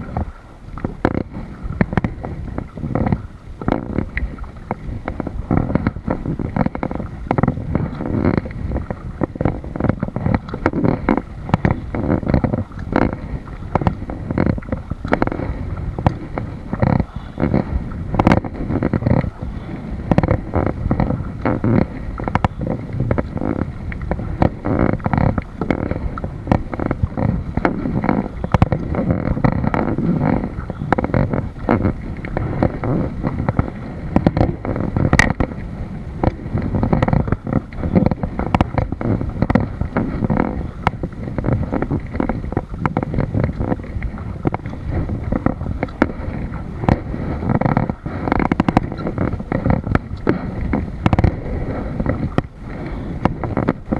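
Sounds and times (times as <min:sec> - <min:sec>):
water splashing against kayak: 0:00.0 - 0:53.9
wind buffeting microphone: 0:00.0 - 0:53.9.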